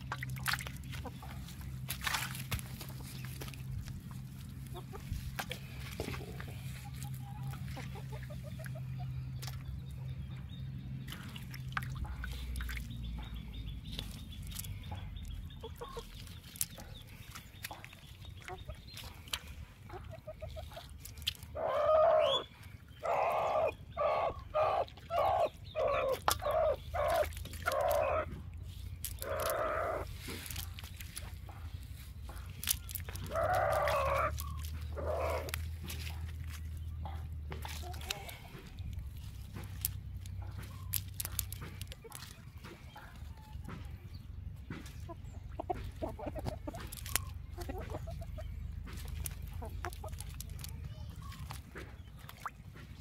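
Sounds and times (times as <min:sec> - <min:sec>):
low steady rumble: 0:00.0 - 0:21.6, 0:22.2 - 0:53.0
chickens clucking: 0:00.0 - 0:53.0.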